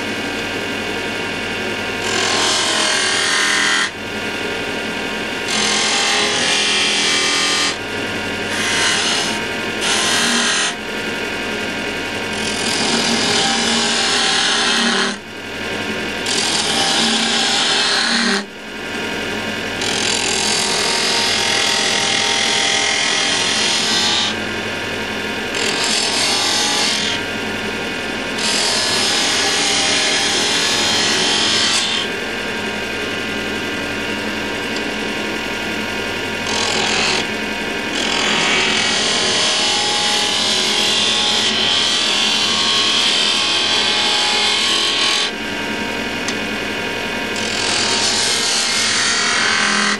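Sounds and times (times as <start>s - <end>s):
lathe humming: 0.0s - 49.9s.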